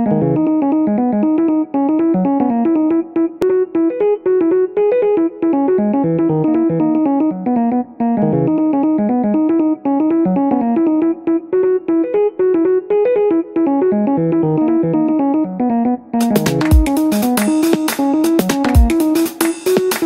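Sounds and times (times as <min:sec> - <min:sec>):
electronic keyboard music: 0:00.0 - 0:20.0.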